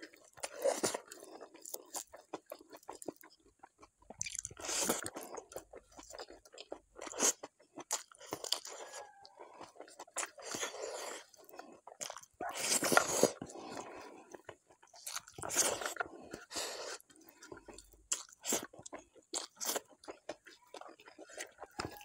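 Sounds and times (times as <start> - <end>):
wet chewing with mouth smacks: 0.0 - 22.0.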